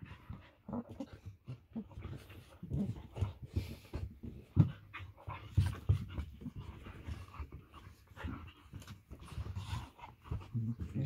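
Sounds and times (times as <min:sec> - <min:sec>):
dogs panting: 0:00.0 - 0:11.0
dogs scuffling: 0:00.1 - 0:11.0.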